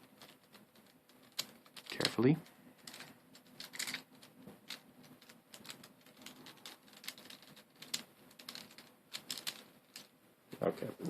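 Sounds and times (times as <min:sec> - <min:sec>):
plastic puzzle pieces clicking: 0:00.0 - 0:10.1.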